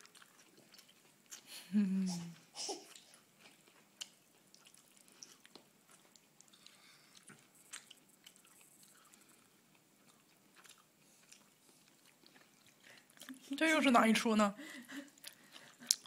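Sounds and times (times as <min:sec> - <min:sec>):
child chewing: 0:00.0 - 0:13.8, 0:14.8 - 0:16.0.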